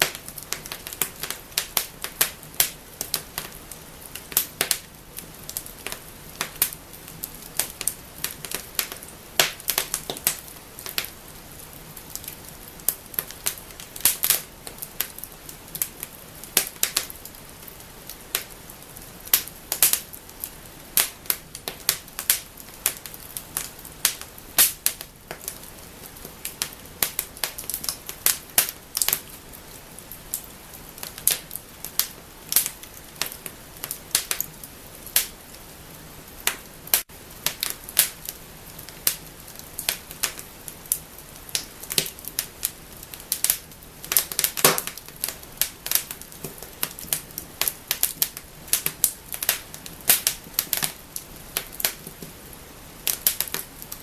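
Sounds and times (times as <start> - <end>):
low steady hiss: 0.0 - 54.0
wood fire crackling and popping: 0.0 - 54.0.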